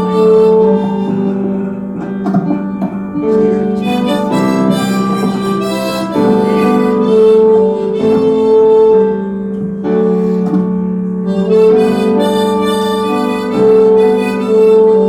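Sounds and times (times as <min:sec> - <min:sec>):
solo harmonica melody: 0:00.0 - 0:02.2, 0:03.1 - 0:15.0.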